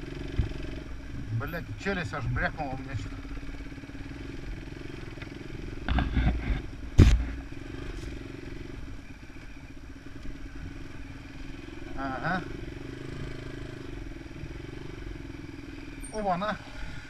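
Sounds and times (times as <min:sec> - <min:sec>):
motorcycle engine running: 0:00.0 - 0:17.0
motorcycle rattling over bumps: 0:00.0 - 0:17.0.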